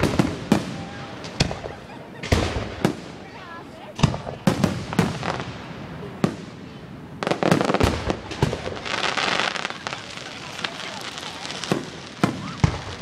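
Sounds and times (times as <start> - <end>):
fireworks bangs: 0.0 - 13.0
fireworks popping and crackling: 0.0 - 13.0.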